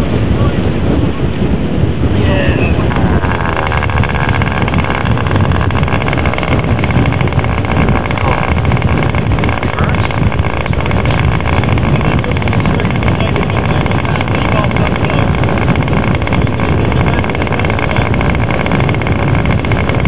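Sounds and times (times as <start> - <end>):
model aircraft engine buzzing: 2.5 - 20.0.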